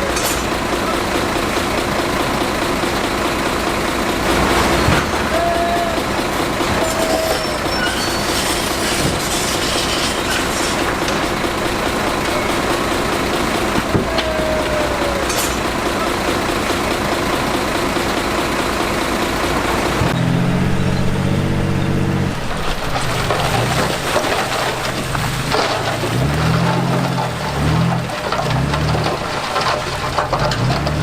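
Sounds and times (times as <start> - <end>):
heavy construction machinery engines: 0.0 - 31.0.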